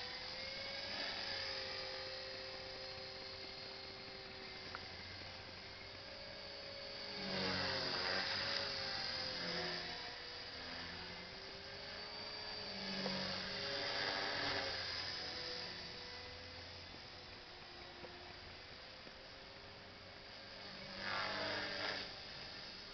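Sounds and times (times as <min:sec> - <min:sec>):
electric motor whine: 0:00.0 - 0:22.9
model helicopter rotor whir: 0:00.0 - 0:22.9.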